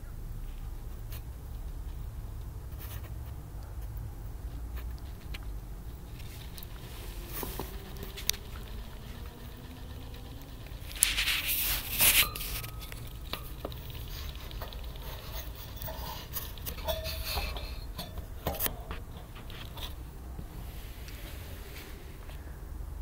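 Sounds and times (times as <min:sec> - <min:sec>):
hamster feet pattering: 0:00.5 - 0:21.3
exercise wheel clicking and rattling: 0:01.0 - 0:20.7.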